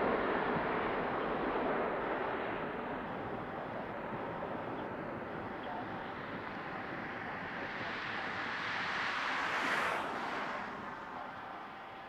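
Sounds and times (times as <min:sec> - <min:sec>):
distant jet engines rushing: 0:00.0 - 0:12.0.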